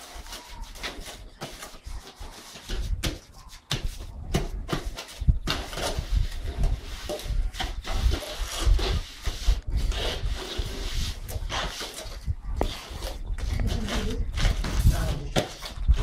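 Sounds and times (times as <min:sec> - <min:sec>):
hand trowels scraping concrete: 0:00.0 - 0:16.0.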